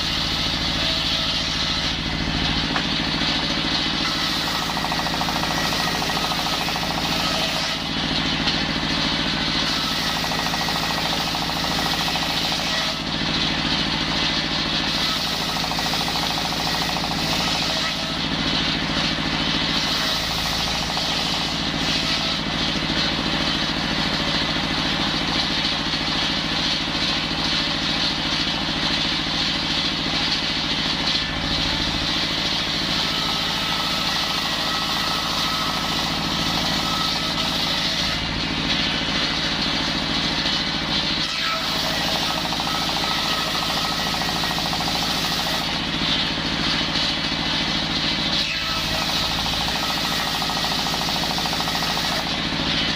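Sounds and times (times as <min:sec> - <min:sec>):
circular saw cutting timber: 0:00.0 - 0:52.9.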